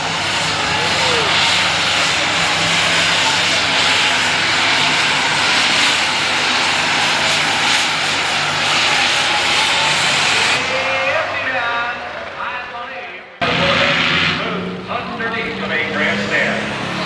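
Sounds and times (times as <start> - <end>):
diesel tractor engine under full load: 0.0 - 17.0.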